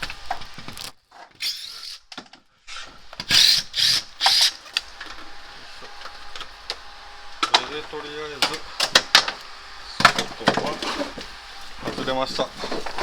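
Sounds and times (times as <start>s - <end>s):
tool noisy bursts: 1.4s - 2.1s, 2.7s - 13.0s.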